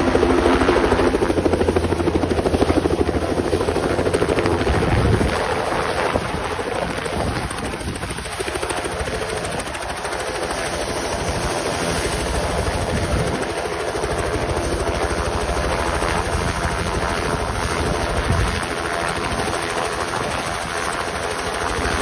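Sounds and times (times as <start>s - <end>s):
helicopter turbine engine: 0.0s - 22.0s.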